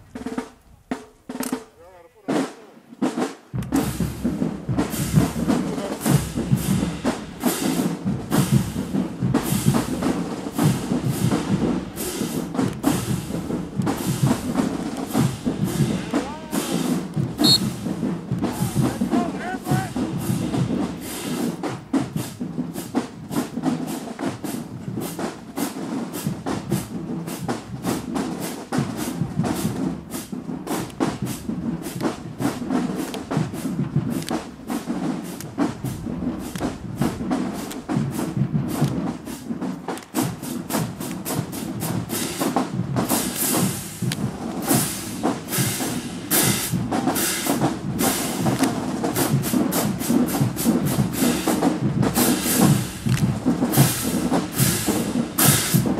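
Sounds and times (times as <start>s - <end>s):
marching drumline playing: 0.0s - 55.9s.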